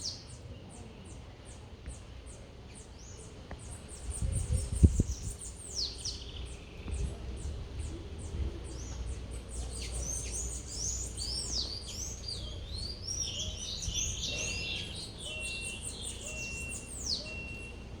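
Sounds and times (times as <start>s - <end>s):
birds singing and chirping: 0.0s - 18.0s.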